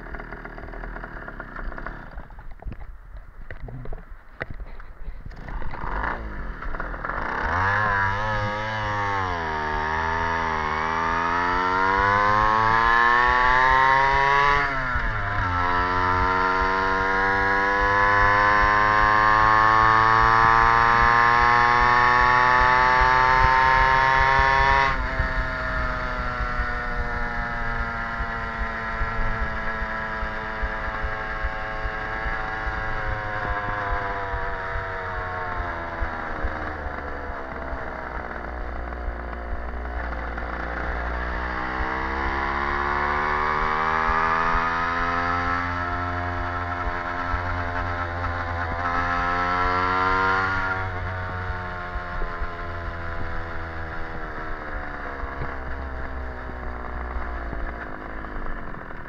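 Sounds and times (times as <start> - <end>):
moped engine accelerating: 0.0 - 59.0
road and wind rumble: 0.0 - 59.0.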